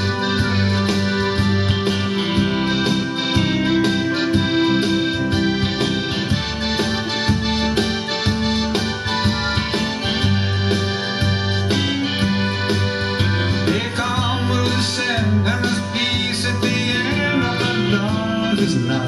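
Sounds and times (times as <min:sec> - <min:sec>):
instrumental dance music: 0:00.0 - 0:19.0.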